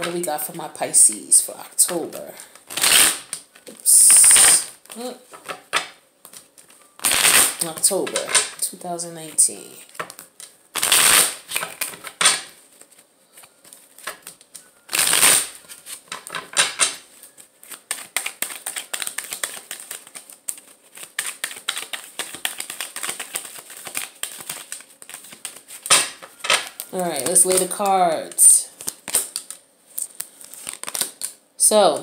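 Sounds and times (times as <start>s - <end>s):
cards shuffling: 1.8s - 31.4s.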